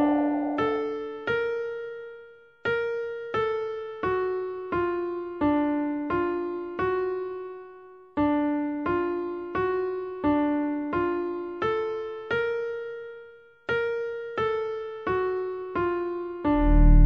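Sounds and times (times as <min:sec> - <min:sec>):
slow electric piano melody: 0:00.0 - 0:17.0.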